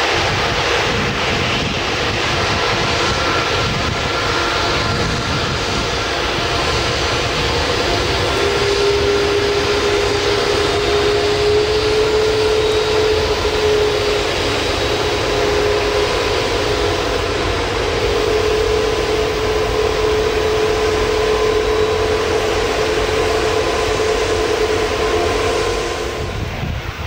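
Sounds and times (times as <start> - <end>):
jet engines running low power: 0.0 - 27.0.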